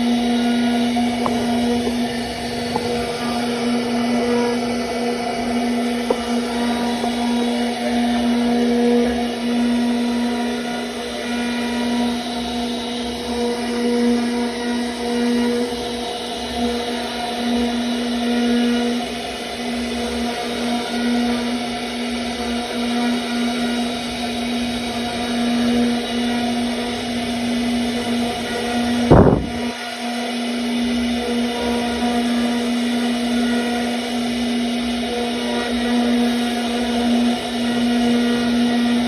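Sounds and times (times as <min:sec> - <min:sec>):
router spindle whine: 0:00.0 - 0:39.0.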